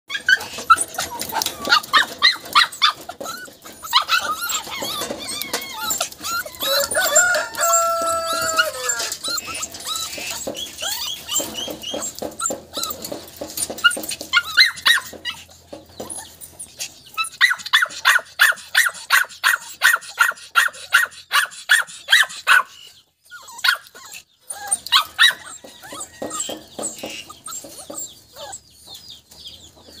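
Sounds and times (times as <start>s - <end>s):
puppies whining and yipping: 0.1s - 30.0s.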